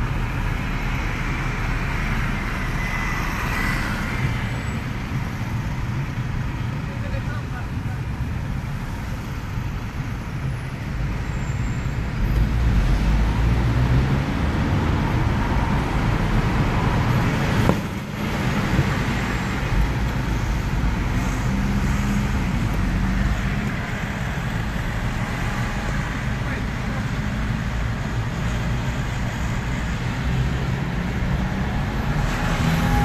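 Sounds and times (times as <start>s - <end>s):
engine and tyre rumble: 0.0s - 33.0s.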